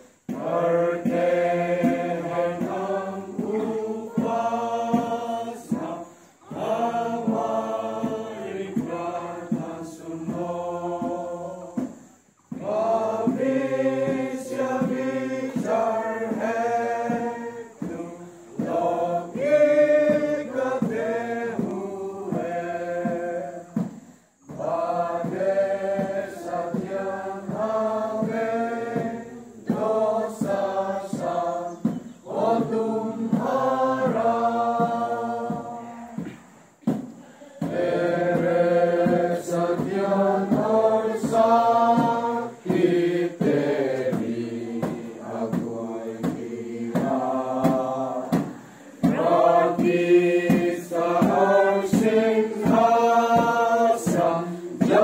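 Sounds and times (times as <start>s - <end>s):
children singing together: 0.0s - 55.0s.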